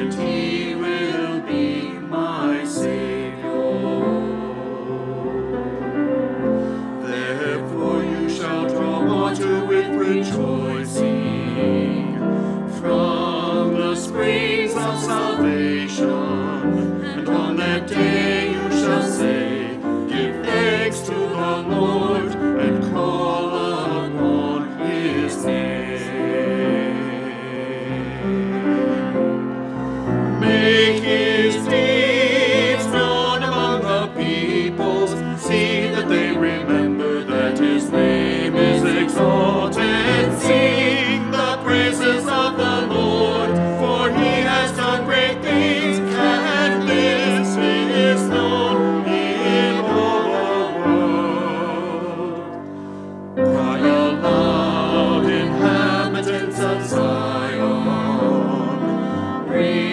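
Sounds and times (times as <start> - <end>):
choir singing with vibrato: 0.0 - 59.9.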